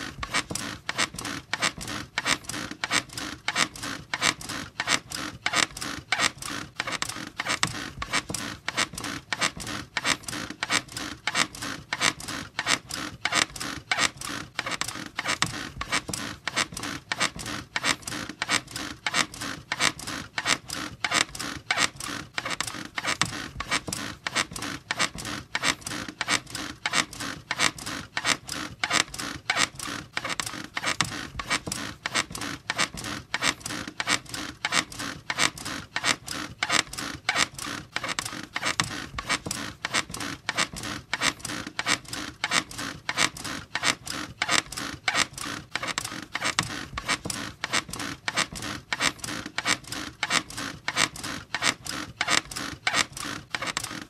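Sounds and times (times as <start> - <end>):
bed springs creaking: 0.0 - 54.0.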